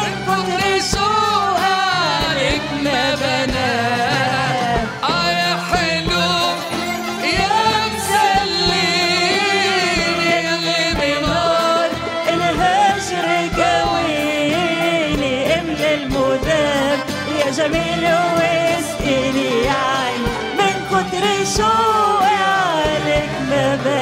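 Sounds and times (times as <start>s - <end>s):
live band: 0.0s - 24.0s
woman singing: 0.0s - 24.0s.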